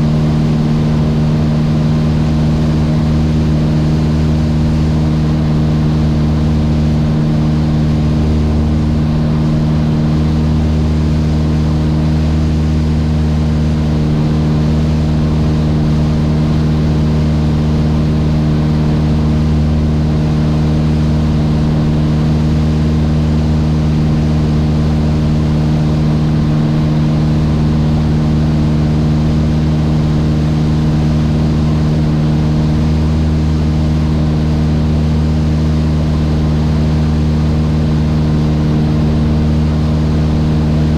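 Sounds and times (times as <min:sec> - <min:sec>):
airplane engine and propeller droning: 0:00.0 - 0:40.9.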